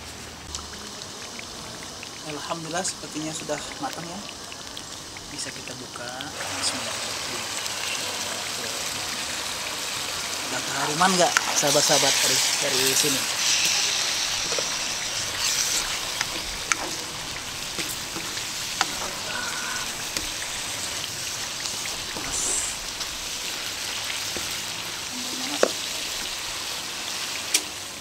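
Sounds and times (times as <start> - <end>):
sauce sizzling in a wok: 0.0 - 28.0.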